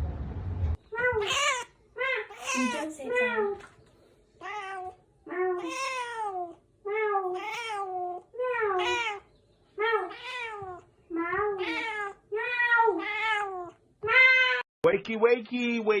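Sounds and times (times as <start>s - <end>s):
cat meowing: 0.9s - 3.6s, 4.4s - 14.7s.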